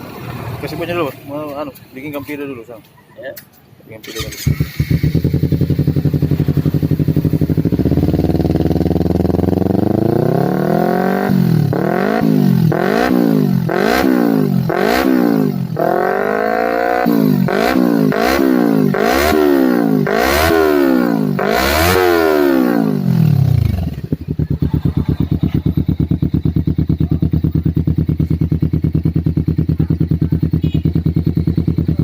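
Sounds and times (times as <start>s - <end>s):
motorcycle engine revving: 4.0s - 32.0s.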